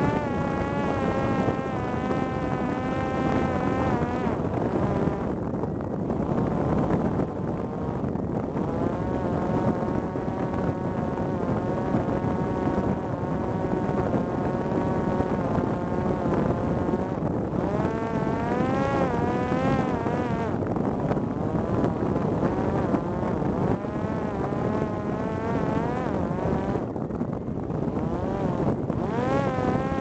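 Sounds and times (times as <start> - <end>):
drone propeller buzzing: 0.0 - 30.0.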